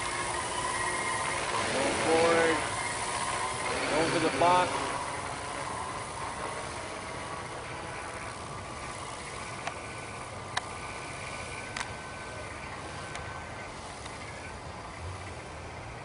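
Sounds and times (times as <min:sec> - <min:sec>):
drone propellers humming: 0:00.0 - 0:16.0
faint high whine: 0:00.0 - 0:16.0.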